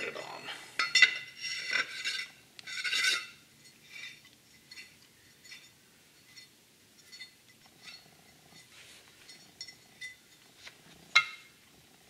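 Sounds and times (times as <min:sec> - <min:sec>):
light metal clinking: 0:00.0 - 0:11.6
metal-on-metal scraping: 0:00.0 - 0:11.6.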